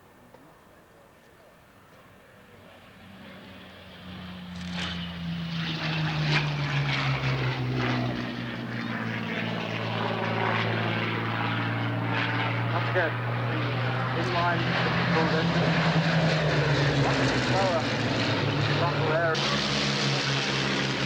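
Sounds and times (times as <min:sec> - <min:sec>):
propeller aircraft engines droning: 0:00.0 - 0:21.0.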